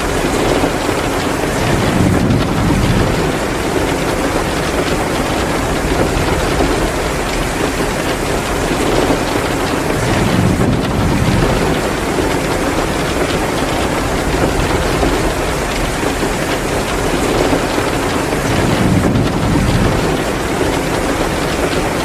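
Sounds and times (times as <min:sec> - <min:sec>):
heavy rain: 0:00.0 - 0:22.0
wood fire crackling: 0:00.0 - 0:22.0.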